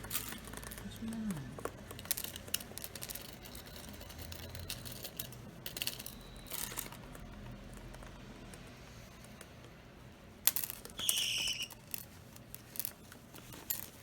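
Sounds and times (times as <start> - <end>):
birds pecking metal chain toy: 0.0 - 8.0, 10.4 - 14.0.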